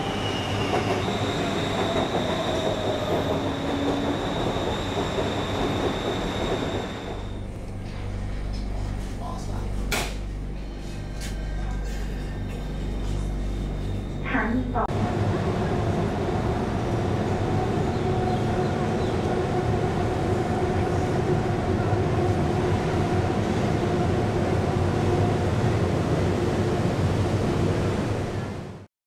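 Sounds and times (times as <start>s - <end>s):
electric train rumbling: 0.0s - 28.9s.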